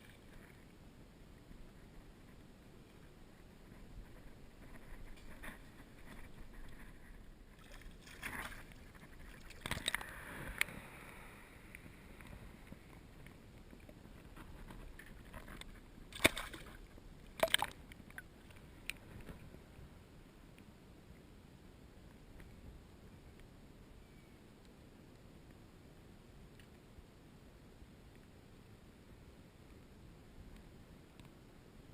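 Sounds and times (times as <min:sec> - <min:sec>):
faint steady hiss: 0:00.0 - 0:31.9.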